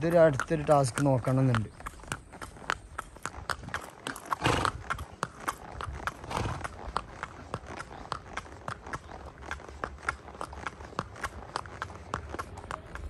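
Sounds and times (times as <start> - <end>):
horse hooves clip-clopping: 0.0 - 13.0.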